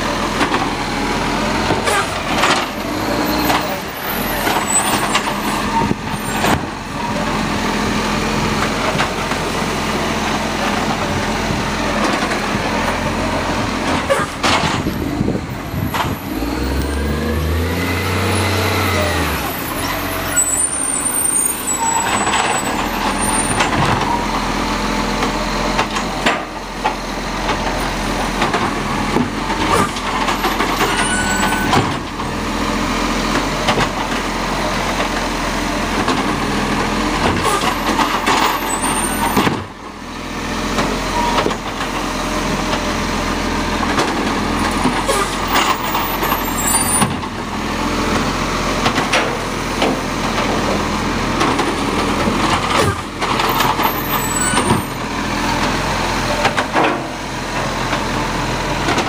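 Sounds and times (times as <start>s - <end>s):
garbage truck idling: 0.0s - 59.0s
hydraulic arm clunks and bangs: 1.6s - 7.3s, 8.3s - 16.7s, 21.5s - 24.5s, 25.2s - 32.4s, 33.3s - 39.9s, 40.7s - 59.0s.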